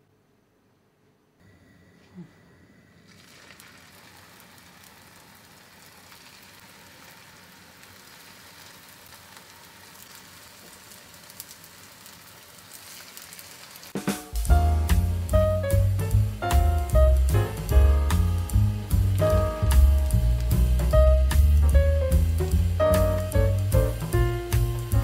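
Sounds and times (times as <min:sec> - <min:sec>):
oil crackling: 0:03.1 - 0:25.0
patties sizzling in oil: 0:03.1 - 0:25.0.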